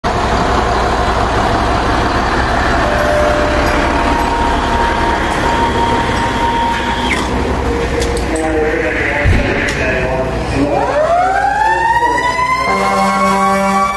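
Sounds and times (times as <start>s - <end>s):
diesel engine rumbling: 0.0s - 13.9s.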